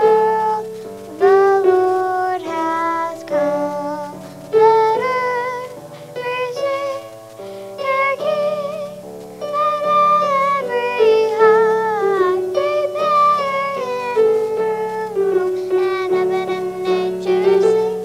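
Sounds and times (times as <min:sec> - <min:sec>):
girl singing: 0:00.0 - 0:18.0
instrumental accompaniment: 0:00.0 - 0:18.0.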